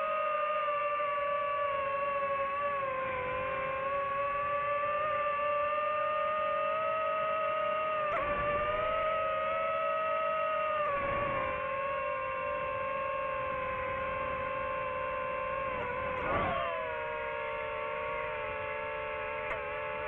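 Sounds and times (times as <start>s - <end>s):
drone motors and propellers: 0.0s - 20.0s.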